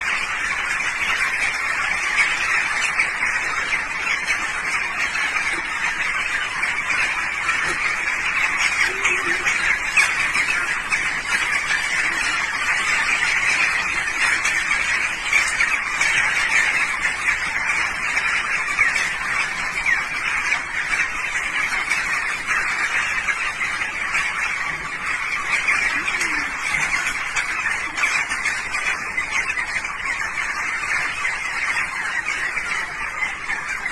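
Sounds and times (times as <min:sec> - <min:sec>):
flock of birds calling: 0:00.0 - 0:33.9.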